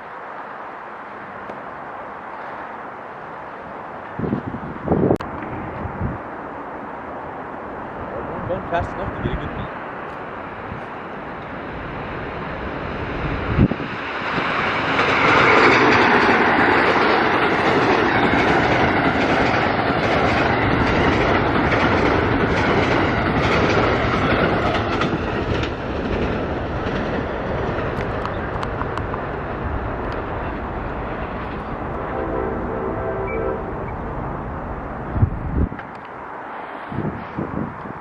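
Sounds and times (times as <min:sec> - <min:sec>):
train wheel and rail noise: 0:00.0 - 0:38.0.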